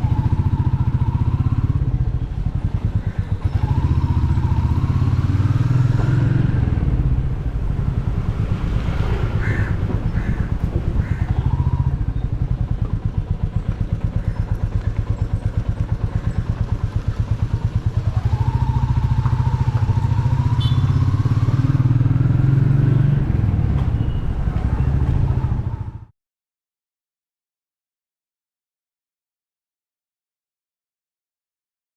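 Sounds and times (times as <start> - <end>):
motorcycle engine running: 0.0 - 26.1.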